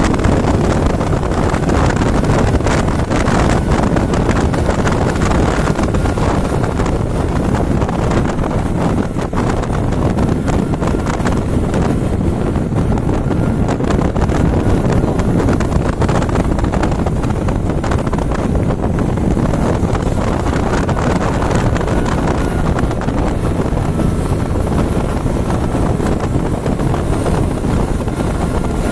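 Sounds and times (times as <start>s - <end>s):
motorcycle engine running: 0.0s - 28.9s
wind buffeting microphone: 0.0s - 28.9s.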